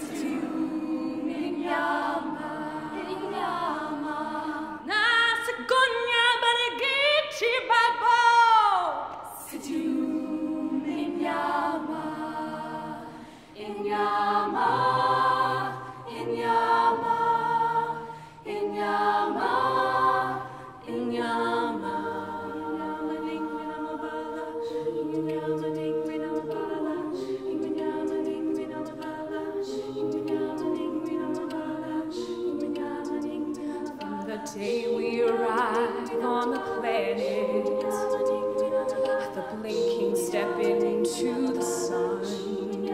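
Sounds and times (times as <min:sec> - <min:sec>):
female a cappella group singing chords: 0:00.0 - 0:42.9.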